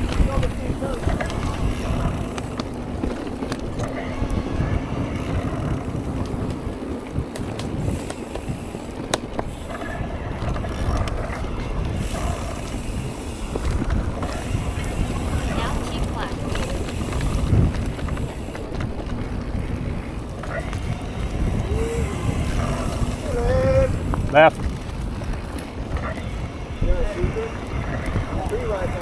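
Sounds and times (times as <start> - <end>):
bike clicks and rattles: 0.0 - 29.0
wind on microphone: 0.0 - 29.0.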